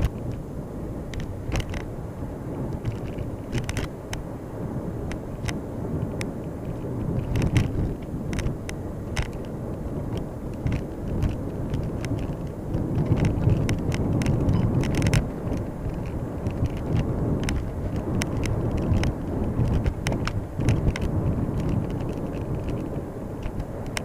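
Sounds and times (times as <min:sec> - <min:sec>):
road and tyre rumble: 0:00.0 - 0:24.0
sharp clicks and knocks: 0:01.1 - 0:01.9, 0:02.7 - 0:04.2, 0:06.2 - 0:09.5, 0:10.1 - 0:24.0.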